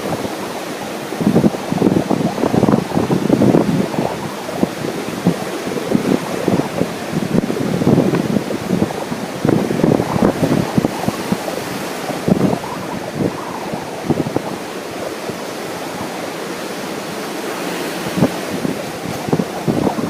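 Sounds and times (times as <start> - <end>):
ocean surf: 0.0 - 20.0
wind buffeting the microphone: 0.0 - 20.0.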